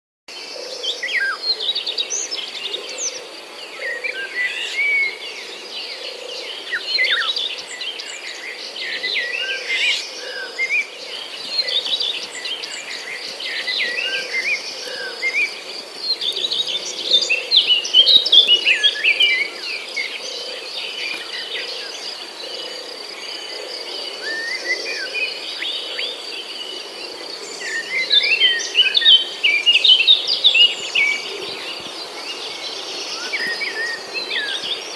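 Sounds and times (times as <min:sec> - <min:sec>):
birds chirping and calling: 0:00.4 - 0:34.9.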